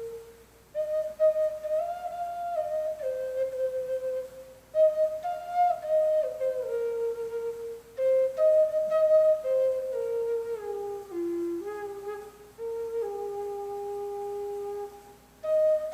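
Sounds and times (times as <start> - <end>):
flute playing slow melody: 0.0 - 15.9.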